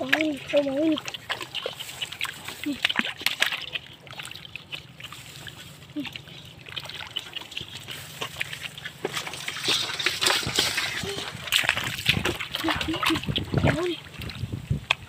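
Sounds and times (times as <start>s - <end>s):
hands sloshing in muddy water: 0.0s - 15.0s
wet clicks: 0.0s - 15.0s.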